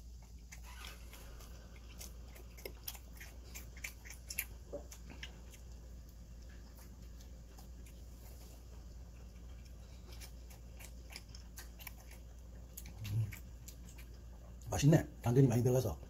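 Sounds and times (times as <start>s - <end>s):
crisp crunchy chewing: 0.0s - 14.7s.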